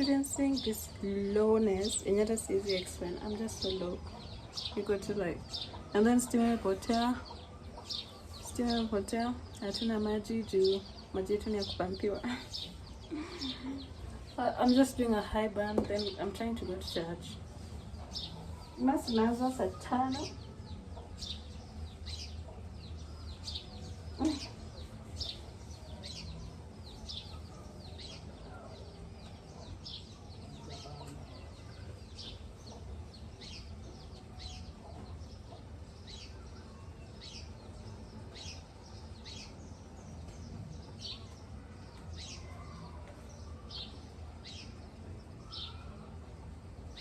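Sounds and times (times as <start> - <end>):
bird chirping: 0.0 - 47.0.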